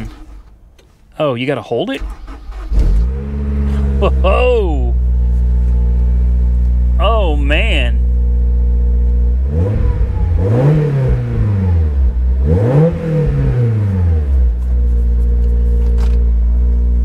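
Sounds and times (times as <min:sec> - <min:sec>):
car engine idling and revving: 0:00.0 - 0:00.9, 0:02.0 - 0:17.0.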